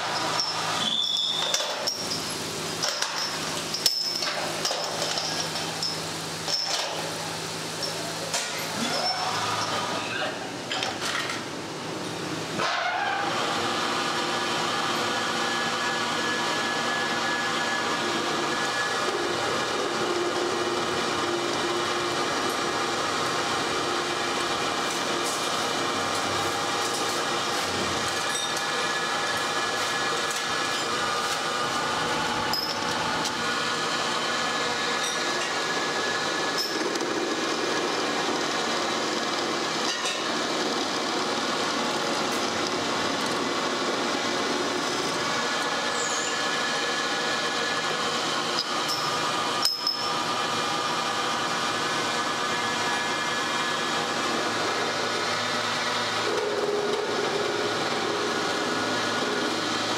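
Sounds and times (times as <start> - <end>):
metal lathe whine and rattle: 0.0 - 59.9.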